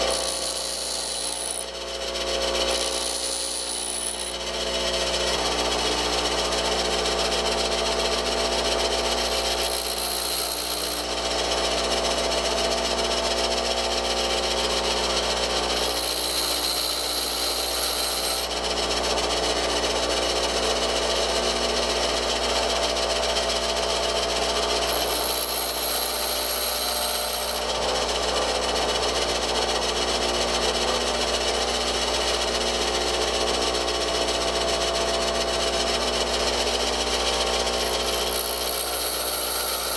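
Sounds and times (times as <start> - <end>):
bench grinder running: 0.0 - 39.9
drill bit grinding on wheel: 0.0 - 39.9.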